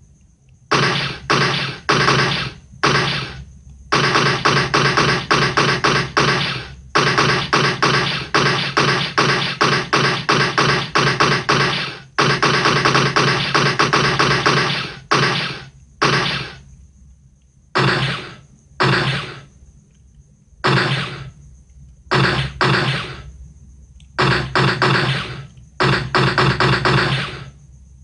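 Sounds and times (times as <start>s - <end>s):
automatic gunfire bursts: 0.7s - 16.6s, 17.8s - 19.5s, 20.6s - 21.3s, 22.1s - 23.3s, 24.2s - 27.6s
single gunshots: 0.7s - 16.6s, 17.8s - 19.5s, 20.6s - 21.4s, 22.1s - 23.3s, 24.2s - 27.6s.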